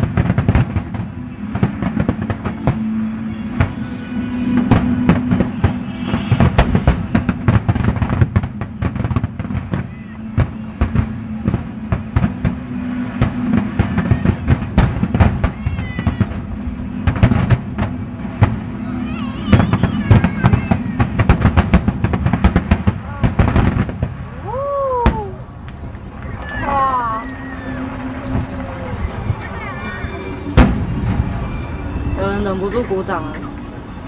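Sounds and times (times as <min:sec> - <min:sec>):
music playing: 0:00.0 - 0:22.8, 0:26.6 - 0:34.0
fireworks bursting and crackling: 0:00.0 - 0:34.0.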